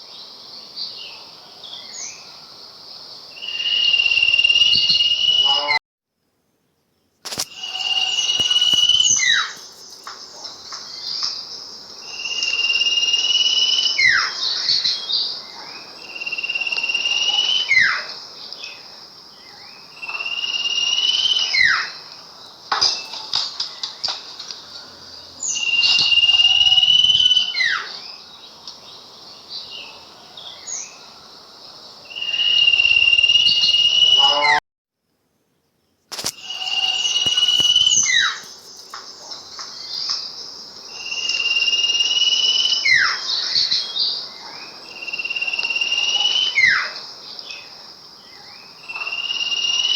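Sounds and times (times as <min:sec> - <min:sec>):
songbird singing: 0:00.0 - 0:05.7, 0:07.0 - 0:34.6, 0:35.9 - 0:49.9.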